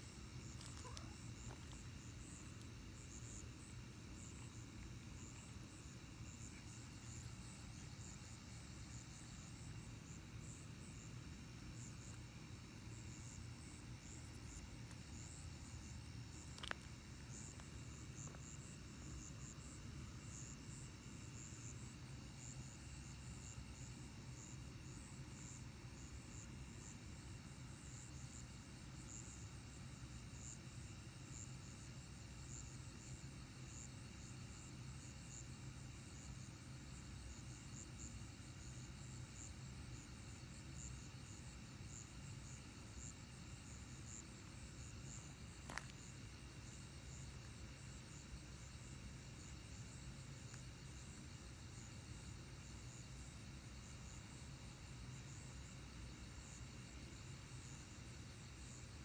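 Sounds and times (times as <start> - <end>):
night insects chirping: 0.0 - 59.0.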